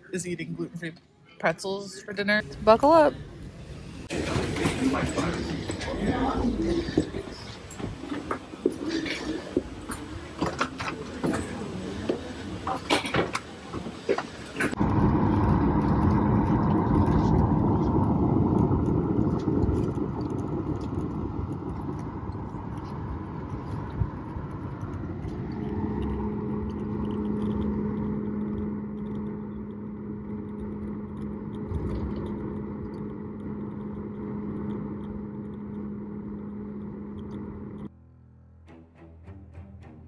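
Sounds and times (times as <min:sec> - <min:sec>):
steady cabin hum: 0:02.4 - 0:37.9
jet engines in airliner cabin: 0:02.5 - 0:37.9.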